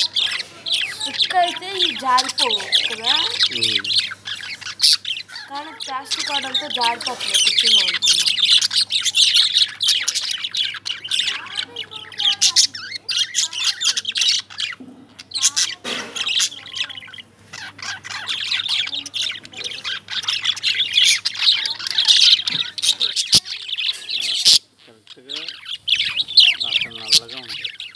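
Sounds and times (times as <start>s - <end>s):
lovebirds chirping and squawking: 0.0s - 27.9s.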